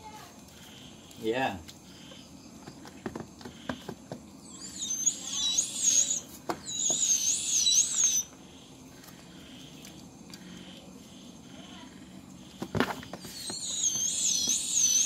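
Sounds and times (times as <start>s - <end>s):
sugar glider buzz-chatter: 0.0s - 15.0s.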